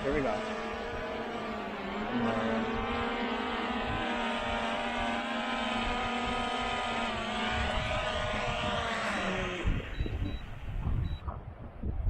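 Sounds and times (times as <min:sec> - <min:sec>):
drone propellers whining: 0:00.0 - 0:11.3.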